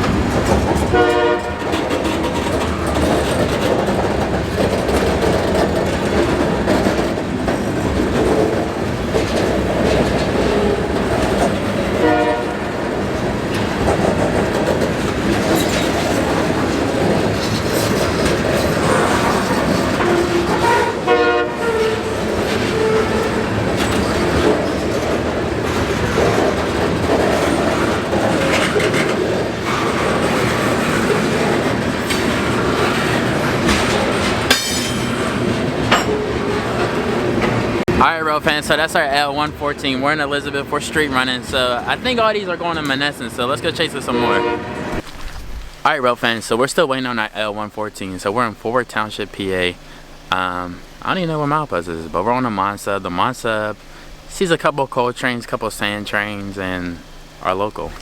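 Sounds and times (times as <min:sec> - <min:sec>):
freight train passing: 0:00.0 - 0:58.0
wheels clattering over rail joints: 0:00.0 - 0:58.0.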